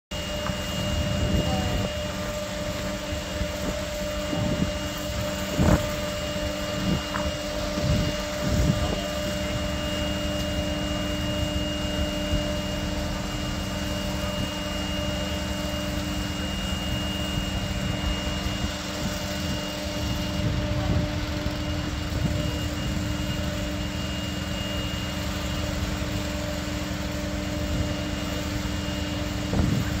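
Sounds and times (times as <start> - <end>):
machine drone with humming tones: 0.1 - 30.0.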